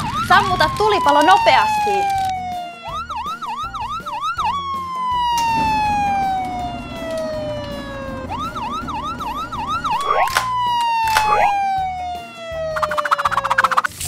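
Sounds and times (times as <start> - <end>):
toy electronic siren warbling: 0.0 - 13.9.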